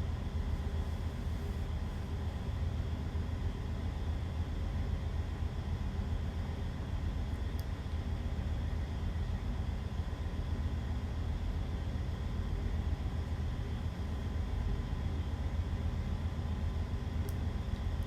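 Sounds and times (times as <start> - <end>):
faint steady whine: 0.0 - 18.0
low machinery hum: 0.0 - 18.0.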